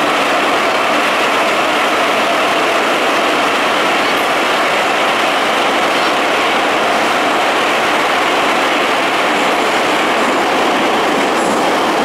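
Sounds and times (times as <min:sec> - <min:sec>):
subway wheels on rail: 0:00.0 - 0:12.0.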